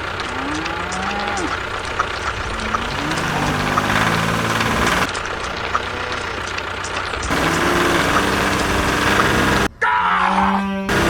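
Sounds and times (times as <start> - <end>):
tractor engine running: 0.0 - 9.7.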